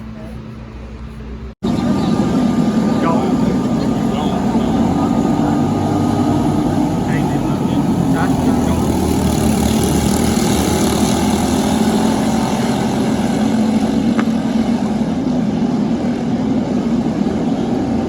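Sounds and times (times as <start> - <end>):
engines idling: 0.0 - 18.0.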